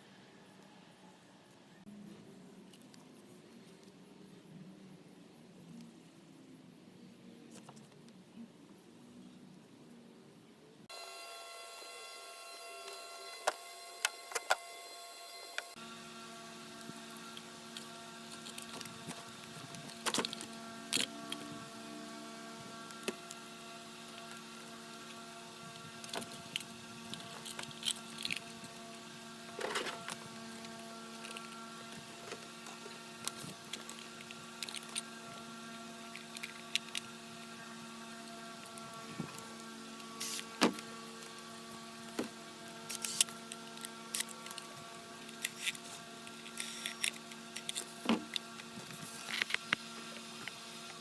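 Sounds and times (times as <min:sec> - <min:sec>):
steady mechanical hum: 0:00.0 - 0:51.0.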